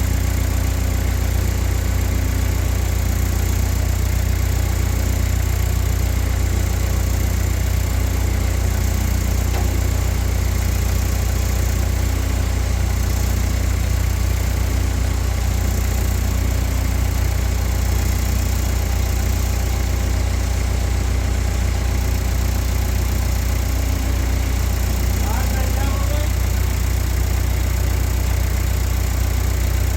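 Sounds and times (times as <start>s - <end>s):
engine droning steadily: 0.0s - 29.9s.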